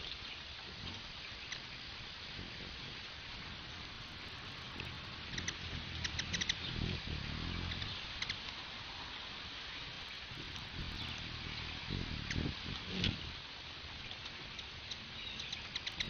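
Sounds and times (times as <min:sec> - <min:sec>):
rain hiss: 0:00.0 - 0:16.0
hummingbird chirping: 0:01.2 - 0:16.0.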